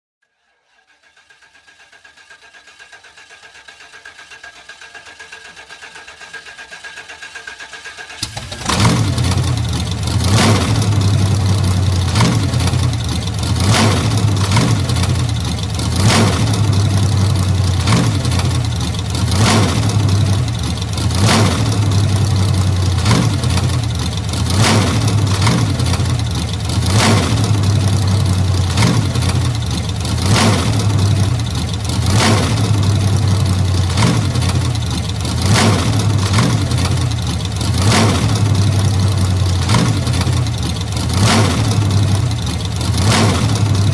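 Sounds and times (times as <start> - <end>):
old car engine humming: 1.3 - 43.9.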